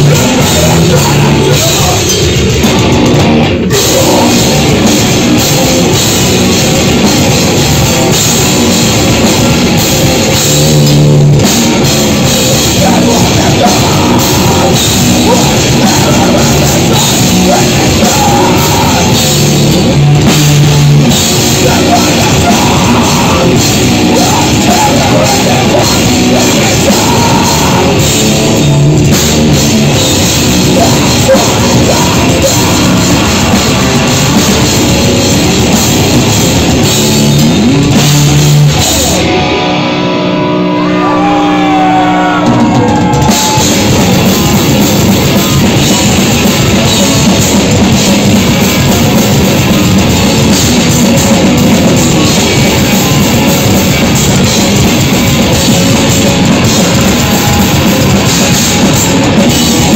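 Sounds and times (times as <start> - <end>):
distorted electric guitars: 0.0 - 59.9
drum kit: 0.0 - 59.9
vocals: 0.0 - 59.9.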